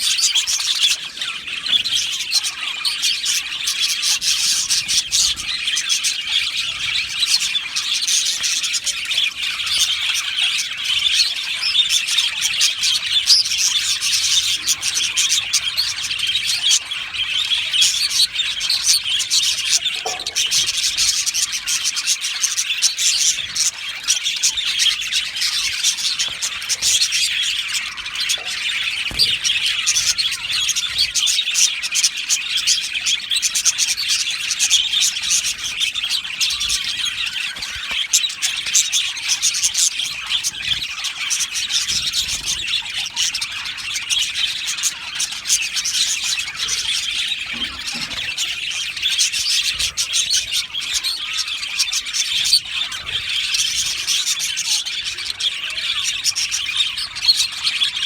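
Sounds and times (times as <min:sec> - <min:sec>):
budgerigars chirping and warbling: 0:00.0 - 0:58.0.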